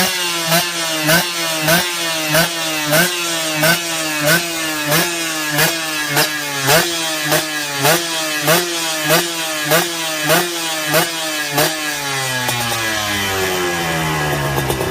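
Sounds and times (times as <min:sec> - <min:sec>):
two-stroke motorcycle engine revving: 0:00.0 - 0:14.9.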